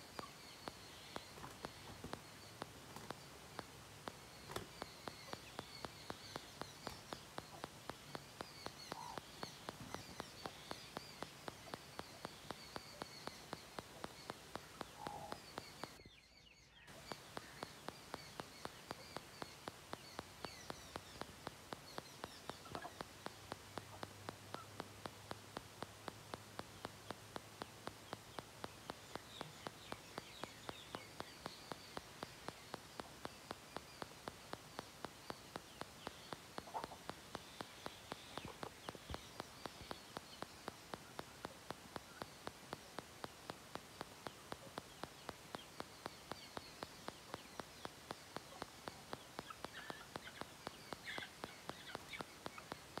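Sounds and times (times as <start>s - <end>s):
regular ticking: 0.0s - 16.1s, 16.9s - 53.0s
steady hiss: 0.0s - 16.1s, 16.8s - 53.0s
small birds chirping faintly: 0.0s - 53.0s.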